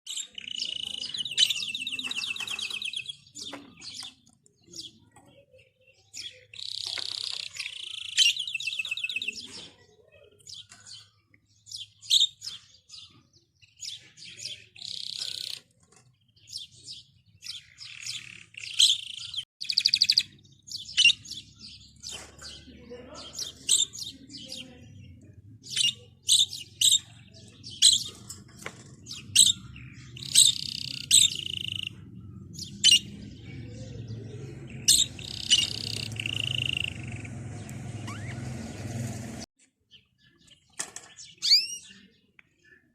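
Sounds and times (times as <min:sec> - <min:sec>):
small songbirds singing: 0:00.0 - 0:42.9.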